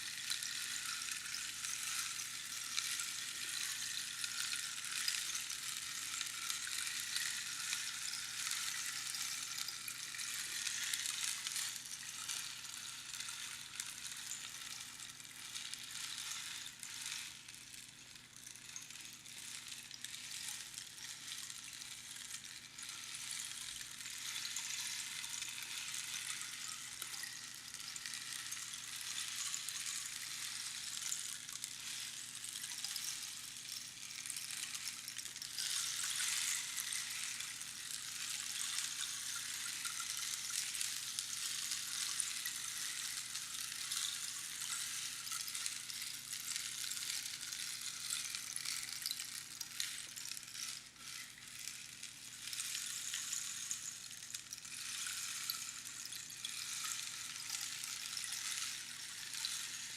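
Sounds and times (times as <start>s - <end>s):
rainstick pattering hiss: 0.0s - 59.9s.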